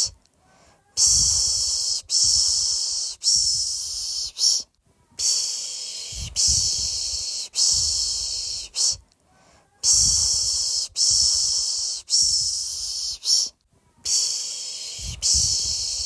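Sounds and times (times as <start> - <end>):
person shushing a baby: 0.0 - 9.0, 9.6 - 16.0.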